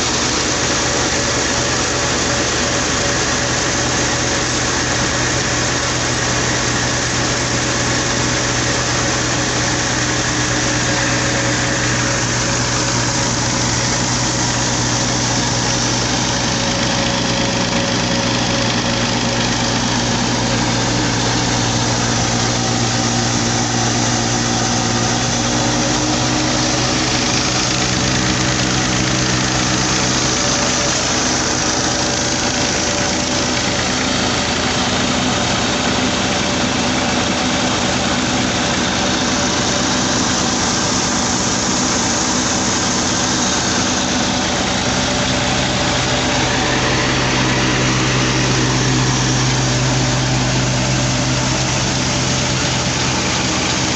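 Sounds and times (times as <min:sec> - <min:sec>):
mill grinder: 0:00.0 - 0:53.9
tractor diesel engine running: 0:00.0 - 0:53.9.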